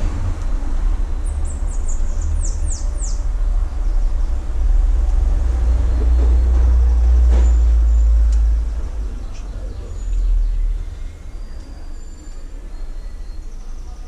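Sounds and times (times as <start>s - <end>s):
steady low rumble: 0.0s - 14.0s
bird chirping: 0.4s - 14.0s.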